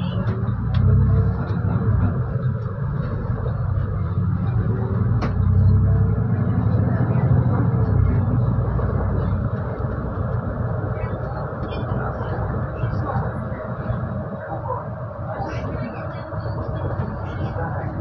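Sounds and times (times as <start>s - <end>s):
bus rumble and road noise: 0.0s - 18.0s.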